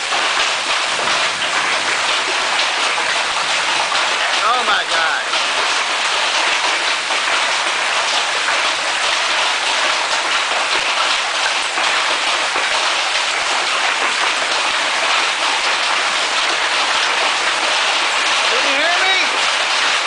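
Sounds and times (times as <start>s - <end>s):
heavy hail rattling: 0.0s - 20.0s.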